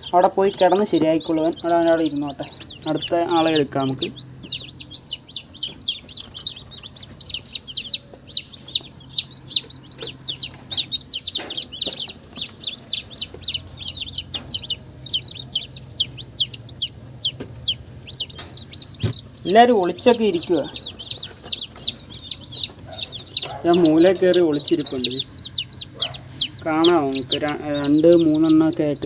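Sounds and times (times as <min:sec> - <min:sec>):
chicks peeping: 0:00.0 - 0:29.0
faint low hum: 0:00.0 - 0:29.0.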